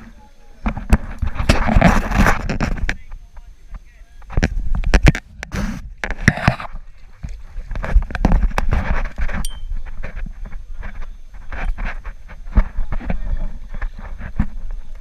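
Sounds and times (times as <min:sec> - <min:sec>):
wind rumble on microphone: 0:00.6 - 0:15.0.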